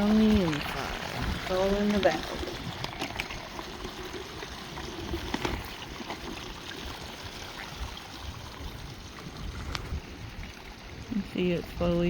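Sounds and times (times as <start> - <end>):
water running from garden hose: 0.0 - 12.0.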